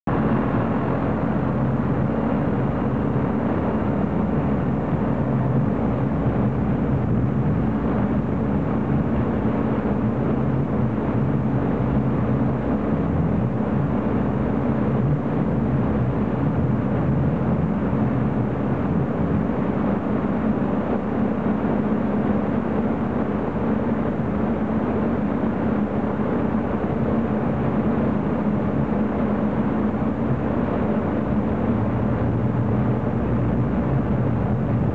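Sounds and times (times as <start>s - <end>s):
hovercraft engine and propeller running: 0.0s - 34.9s.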